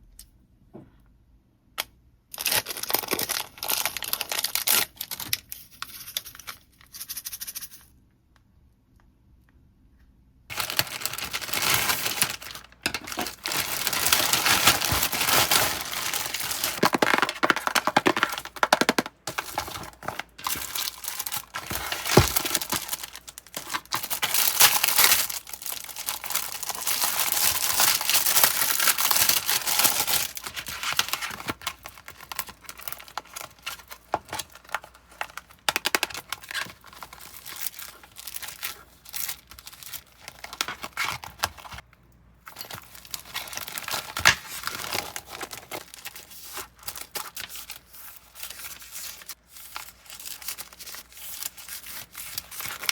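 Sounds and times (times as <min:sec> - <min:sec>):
packaging crinkling and tearing: 0:02.4 - 0:06.2, 0:10.5 - 0:41.8, 0:42.5 - 0:52.9.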